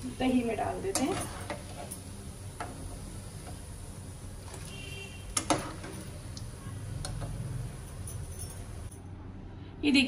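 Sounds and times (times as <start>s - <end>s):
oil sizzling: 0.0s - 8.9s.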